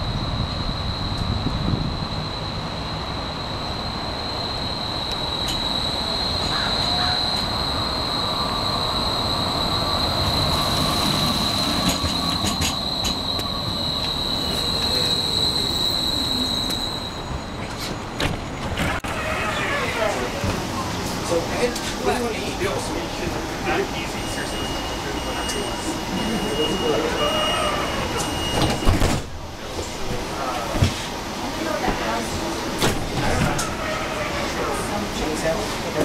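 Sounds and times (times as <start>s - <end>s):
streetcar low rumble: 0.0s - 36.0s
streetcar wheel squeal: 0.1s - 36.0s.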